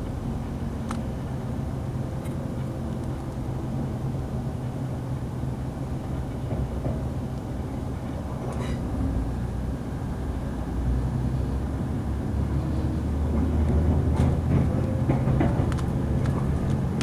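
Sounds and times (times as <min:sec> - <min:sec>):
diesel engine drone: 0:00.0 - 0:17.0
wheels rumbling on rail: 0:00.0 - 0:17.0.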